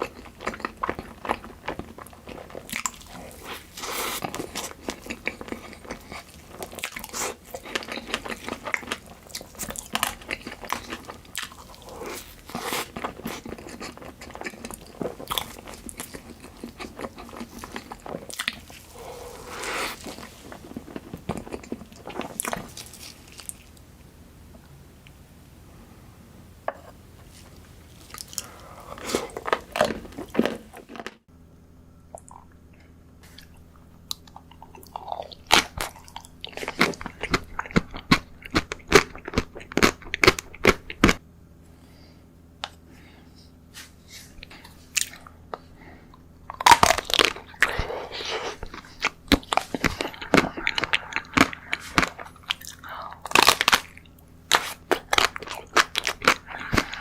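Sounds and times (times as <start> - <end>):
crunchy chewing: 0.0 - 23.9, 27.2 - 31.2, 33.3 - 41.2, 44.2 - 57.0
faint low hum: 0.0 - 57.0.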